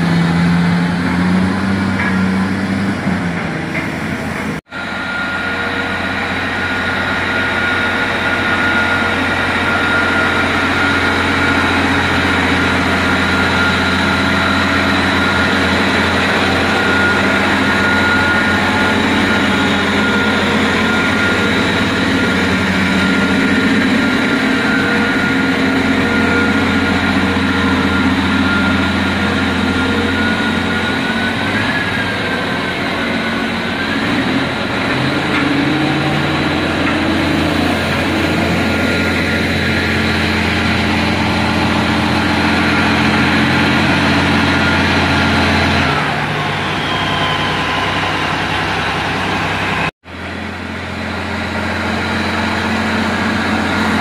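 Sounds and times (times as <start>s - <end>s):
diesel engine drone with high whine: 0.0s - 54.0s.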